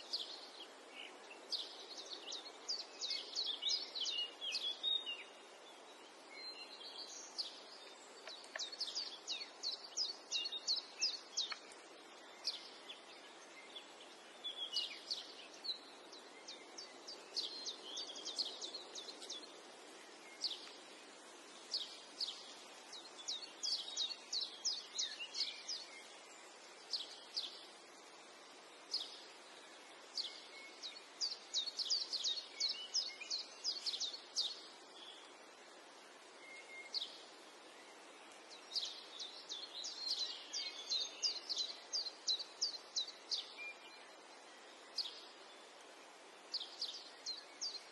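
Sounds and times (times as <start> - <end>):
small birds chirping: 0.0 - 47.9
steady background hiss: 0.0 - 47.9.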